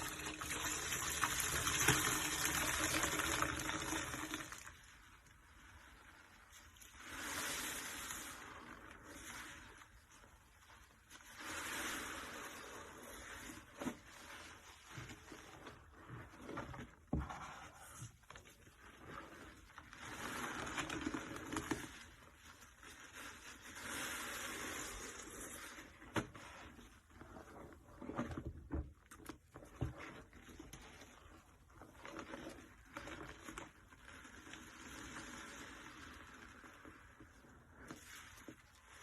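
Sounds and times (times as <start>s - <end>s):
foamy sponge squelching: 0.0s - 39.0s.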